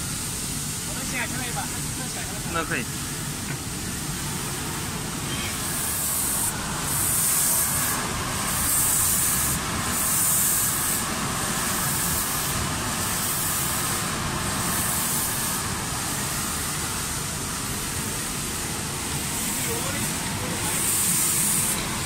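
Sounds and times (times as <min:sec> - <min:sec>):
spray gun hissing in bursts: 0:00.0 - 0:22.0
steady machine noise: 0:00.0 - 0:22.0.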